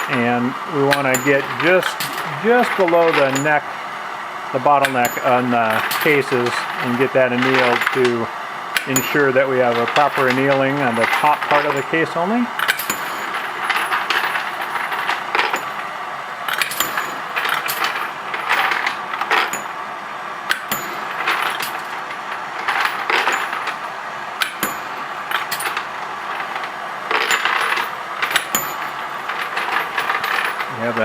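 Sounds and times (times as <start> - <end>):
brass cases clinking: 0.0 - 3.6, 4.7 - 8.2, 8.8 - 15.8, 16.5 - 19.8, 20.5 - 22.0, 22.6 - 23.8, 24.4 - 31.0
torch flames hissing: 0.0 - 27.3.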